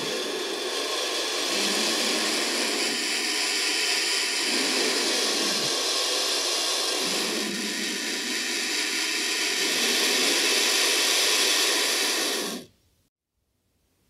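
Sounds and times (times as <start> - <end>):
vulture hissing: 0.0 - 12.8.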